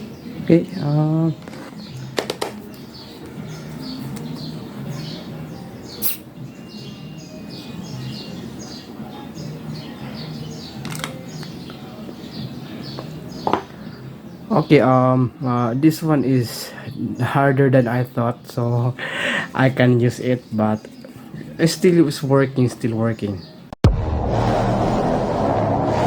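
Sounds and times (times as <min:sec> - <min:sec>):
birds chirping: 0:00.0 - 0:23.7.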